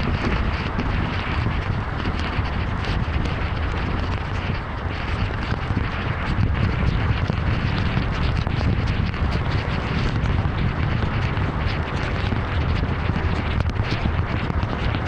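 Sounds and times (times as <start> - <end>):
rain hissing on wet road: 0.0 - 15.0.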